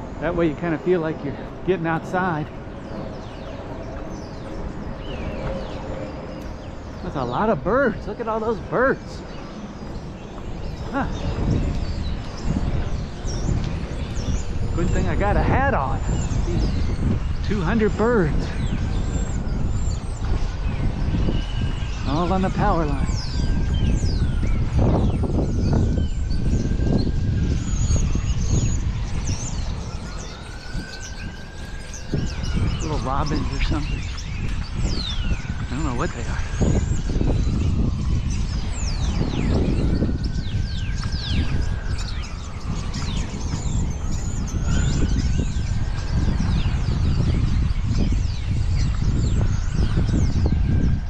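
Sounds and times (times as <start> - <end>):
distant siren: 0.0 - 51.0
small birds chirping: 0.0 - 51.0
street traffic rumble: 0.0 - 51.0.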